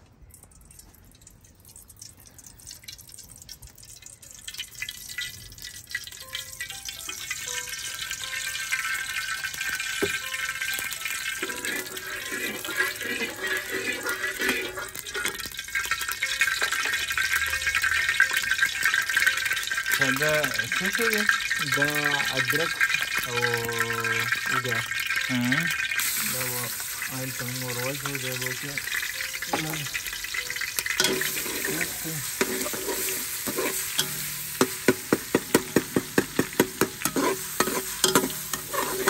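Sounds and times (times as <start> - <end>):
oil sizzling and crackling: 0.0 - 39.0.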